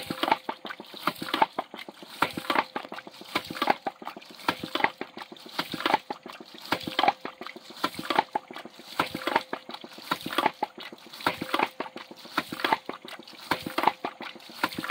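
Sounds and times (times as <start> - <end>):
pump waste valve clacking: 0.0 - 14.9
water gushing: 0.0 - 14.9.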